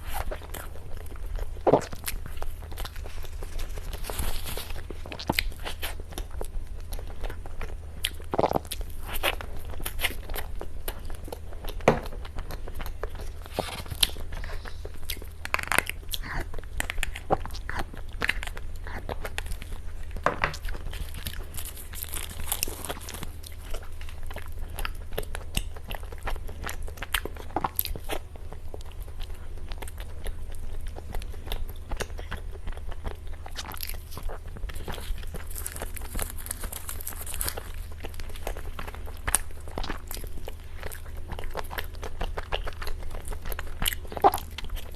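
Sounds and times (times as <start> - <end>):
crisp clicks and crunches: 0.0 - 28.2, 28.8 - 44.9
cake being bitten and chewed: 0.0 - 44.9.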